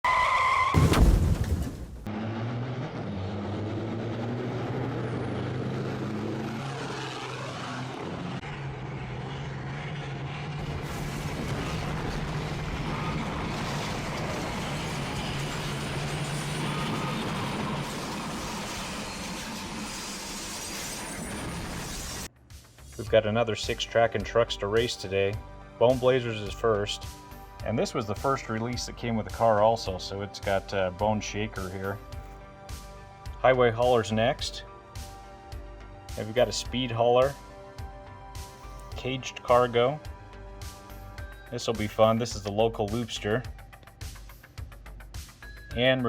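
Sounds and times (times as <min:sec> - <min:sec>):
engine drone with low hum: 0:00.8 - 0:24.3, 0:25.0 - 0:45.4.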